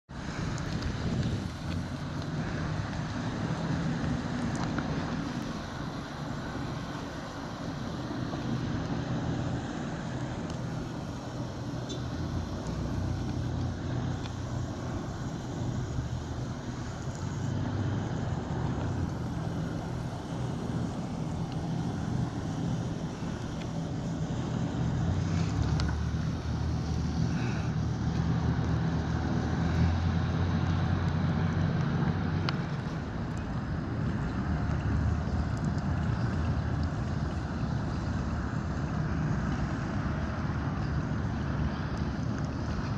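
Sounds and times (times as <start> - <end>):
broad rushing noise: 0.0 - 42.9
boat diesel engine droning: 0.1 - 42.9.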